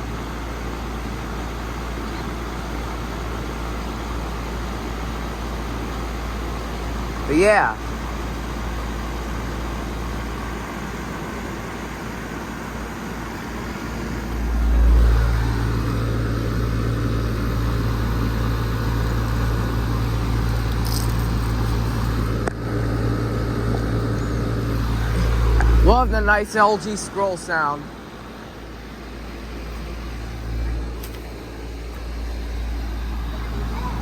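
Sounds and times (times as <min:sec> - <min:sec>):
air conditioner humming: 0:00.6 - 0:34.0.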